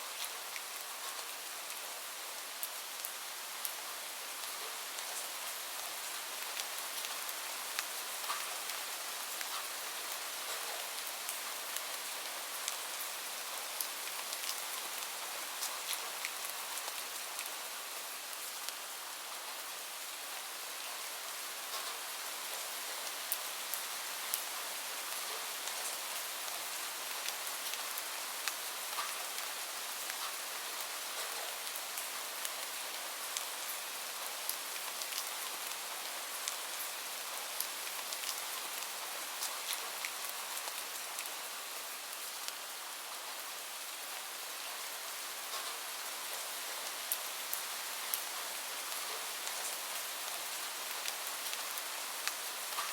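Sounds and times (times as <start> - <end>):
rain falling on a surface: 0.0 - 52.9.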